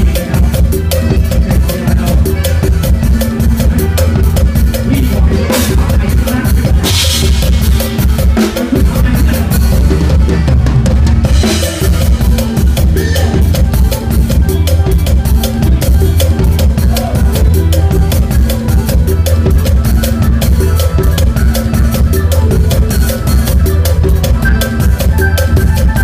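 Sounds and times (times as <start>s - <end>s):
drum kit playing fast beat: 0.0s - 26.0s
live band playing: 0.0s - 26.0s.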